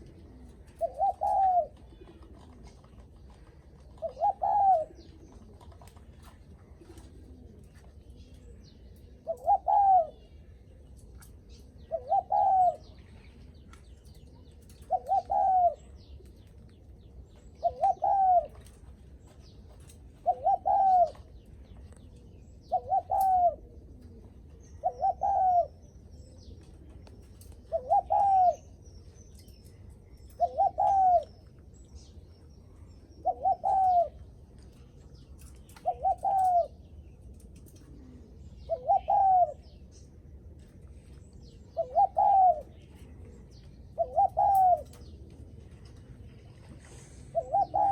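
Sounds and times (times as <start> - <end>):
dove cooing: 0.0 - 31.6, 32.6 - 47.9.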